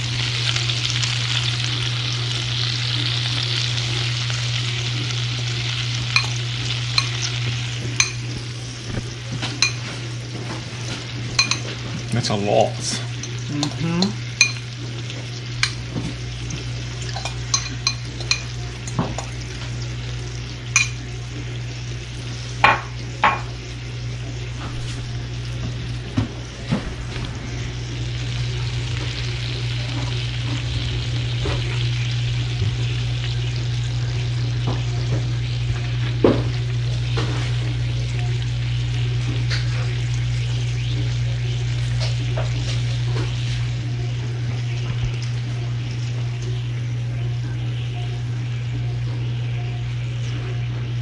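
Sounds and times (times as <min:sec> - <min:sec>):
food frying in oil: 0:00.0 - 0:51.0
steady low hum: 0:00.0 - 0:51.0.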